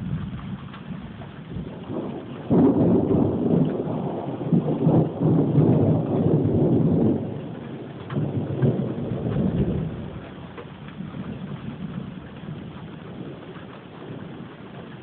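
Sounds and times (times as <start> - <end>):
low thunder rumbling: 0.0 - 15.0
raindrops ticking: 0.0 - 15.0
steady rain: 0.0 - 15.0.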